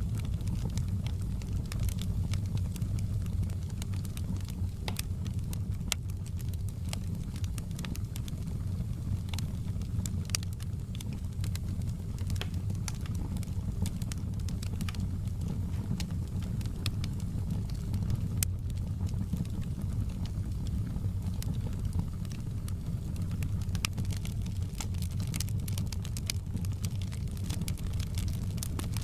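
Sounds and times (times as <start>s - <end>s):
fireplace fire crackling: 0.0s - 29.0s.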